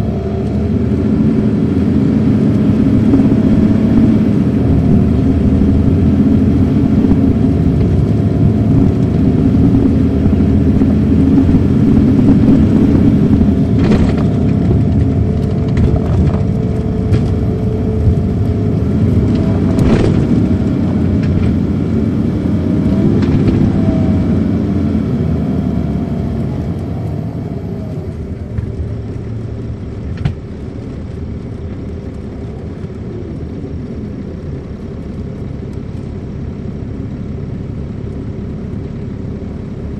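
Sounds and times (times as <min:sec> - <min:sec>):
diesel bus engine: 0:00.0 - 0:39.9.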